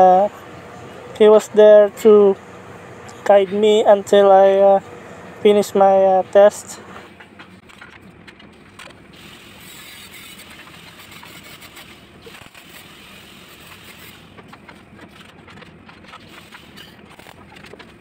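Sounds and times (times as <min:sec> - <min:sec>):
workshop hiss: 0:00.0 - 0:07.2, 0:09.0 - 0:15.1, 0:16.1 - 0:18.0.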